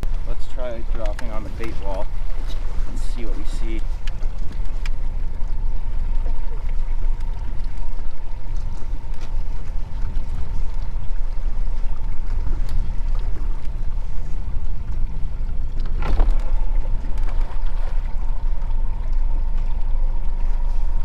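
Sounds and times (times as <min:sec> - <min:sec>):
water lapping against boat: 0:00.0 - 0:21.0
wind rumbling on microphone: 0:00.0 - 0:21.0.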